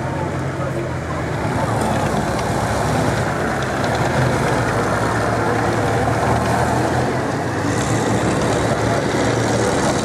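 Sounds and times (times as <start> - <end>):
tank diesel engines droning: 0.0 - 10.0
tank tracks rattling: 1.2 - 10.0.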